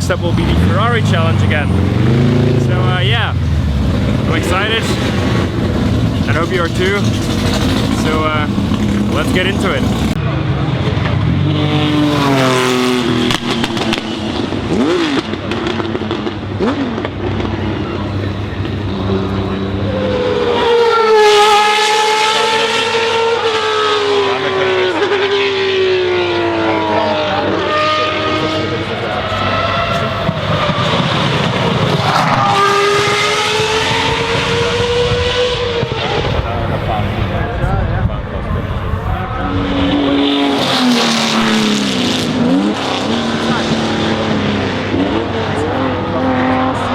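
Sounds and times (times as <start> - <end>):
engine throttle blips: 0.0 - 46.9
race car engine popping: 0.0 - 46.9.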